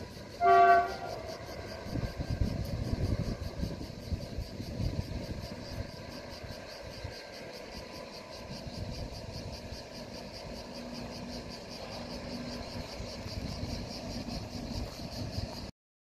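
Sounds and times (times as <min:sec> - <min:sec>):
cicadas pulsing: 0:00.0 - 0:15.7
distant train rumbling: 0:00.0 - 0:15.7.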